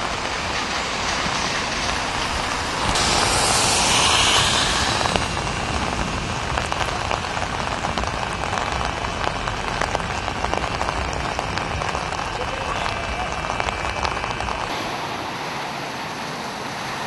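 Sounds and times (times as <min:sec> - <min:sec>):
heavy rain on wet street: 0:00.0 - 0:17.0.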